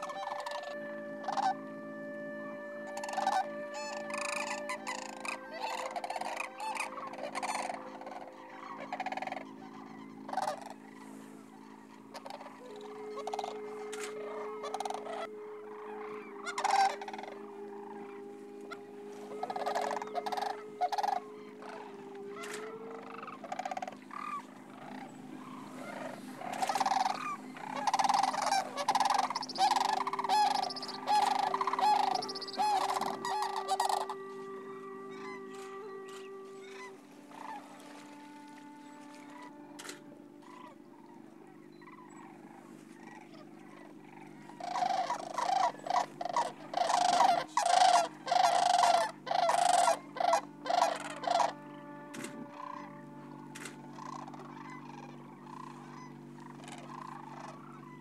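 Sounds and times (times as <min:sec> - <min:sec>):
cranes calling: 0:00.0 - 0:58.0.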